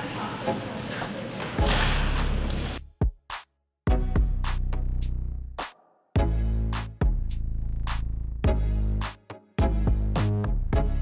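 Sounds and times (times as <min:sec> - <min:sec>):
electronic beat with deep bass: 0:01.6 - 0:11.0.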